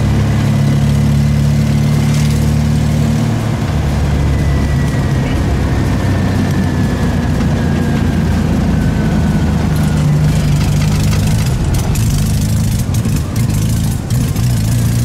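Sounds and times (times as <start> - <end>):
car engine from inside cabin: 0.0 - 15.0.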